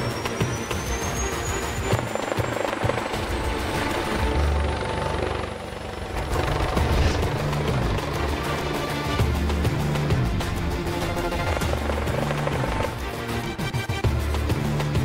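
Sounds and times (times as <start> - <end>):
helicopter turbine whine: 0.0 - 13.9
background music: 0.0 - 15.0.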